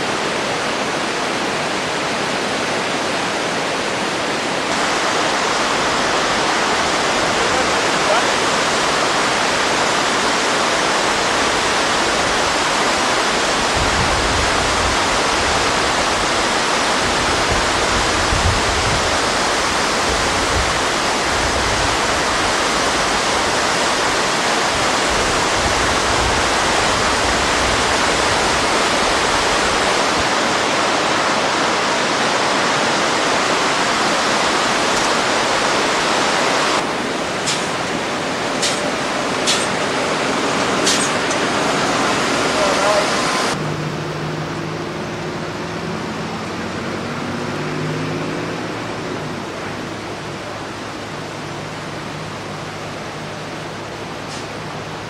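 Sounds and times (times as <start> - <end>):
river rushing: 0.0 - 55.0.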